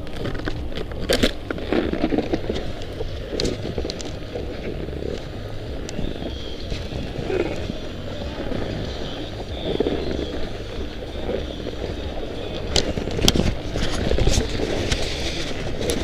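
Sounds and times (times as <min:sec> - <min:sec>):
snowboard scraping over packed snow: 0:00.0 - 0:16.0
wind rumbling on microphone: 0:00.0 - 0:16.0.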